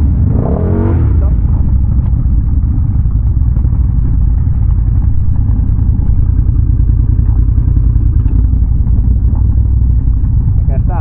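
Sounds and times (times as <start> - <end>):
atv engine rumbling: 0.0 - 11.0.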